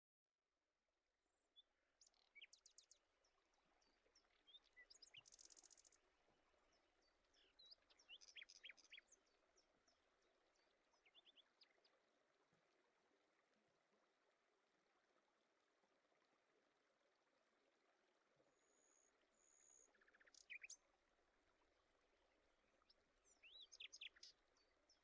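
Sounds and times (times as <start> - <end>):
songbirds chirping: 1.3 - 25.0.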